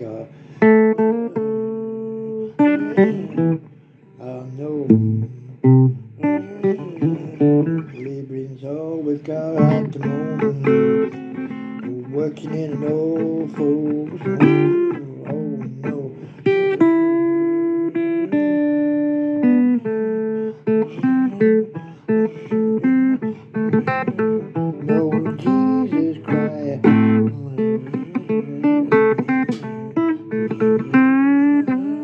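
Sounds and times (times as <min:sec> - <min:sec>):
blues guitar playing: 0:00.0 - 0:32.0.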